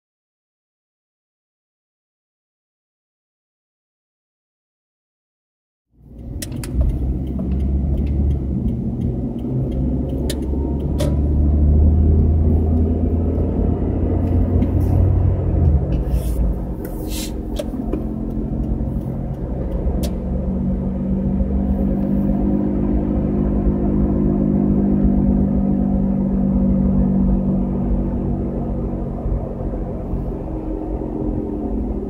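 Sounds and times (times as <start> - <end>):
car road and engine rumble: 5.9 - 32.0.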